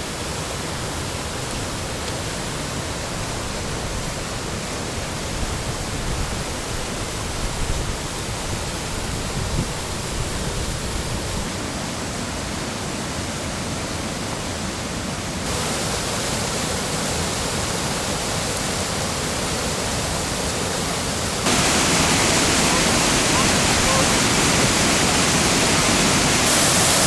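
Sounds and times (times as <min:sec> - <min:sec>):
rushing waterfall: 0:00.0 - 0:27.0.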